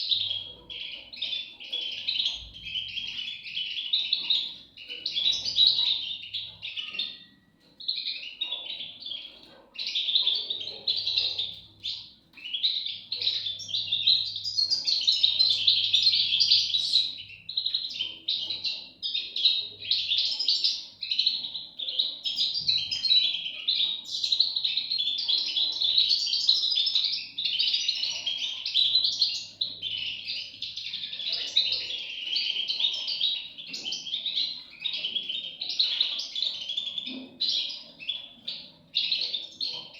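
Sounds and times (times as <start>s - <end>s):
chicks chirping: 0.0s - 39.9s.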